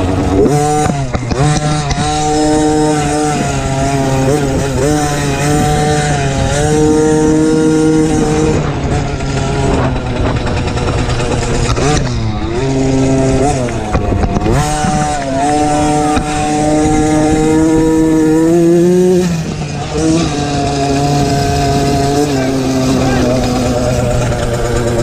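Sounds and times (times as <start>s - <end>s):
small motorbike engine revving: 0.0s - 25.0s.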